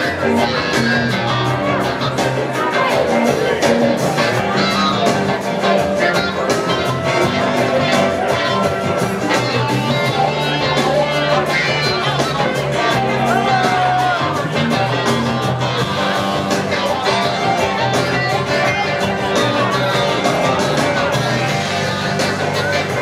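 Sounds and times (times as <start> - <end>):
blues-rock band playing: 0.0 - 23.0
clavinet solo: 0.0 - 23.0.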